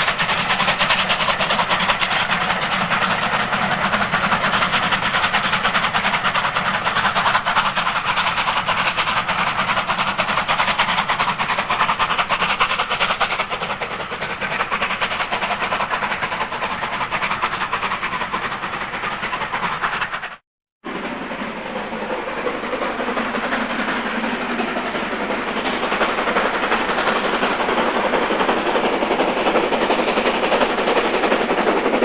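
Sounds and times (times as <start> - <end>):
steam locomotive exhaust beats: 0.0 - 32.0
wheels on rails: 0.0 - 32.0.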